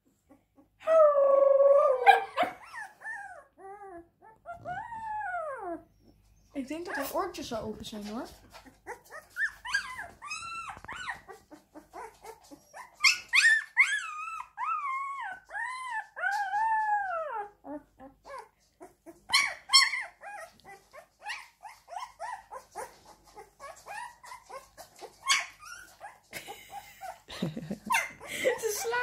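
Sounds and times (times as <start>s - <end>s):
puppy whining and yelping: 0.0s - 7.2s, 8.4s - 29.0s
puppy wailing: 0.3s - 6.1s, 8.5s - 26.3s, 27.9s - 29.0s.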